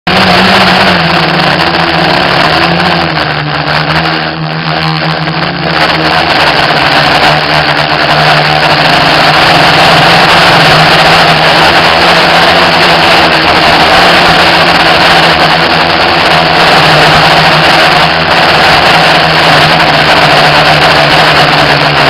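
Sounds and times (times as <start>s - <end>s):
quadcopter motors whirring: 0.1s - 22.0s.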